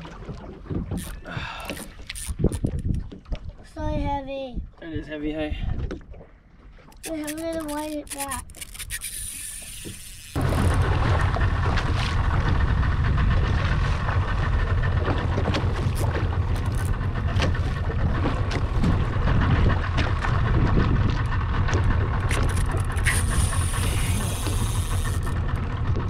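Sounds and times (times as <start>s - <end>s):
boat engine rumbling: 0.0s - 26.0s.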